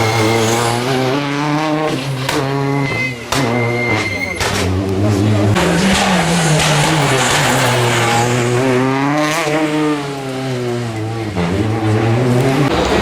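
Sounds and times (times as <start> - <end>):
rally car engine revving hard: 0.0 - 13.0.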